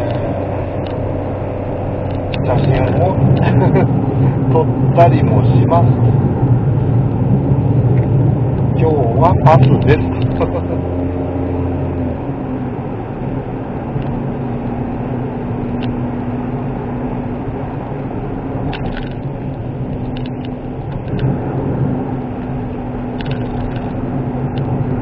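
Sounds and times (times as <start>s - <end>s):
car engine hum: 0.0s - 25.0s
tyre and road noise: 0.0s - 25.0s.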